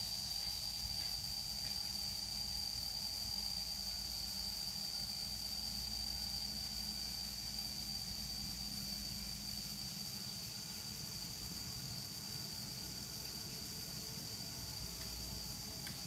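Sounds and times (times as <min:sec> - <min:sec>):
constant hiss: 0:00.0 - 0:16.0
high-pitched insect trill: 0:00.0 - 0:16.0.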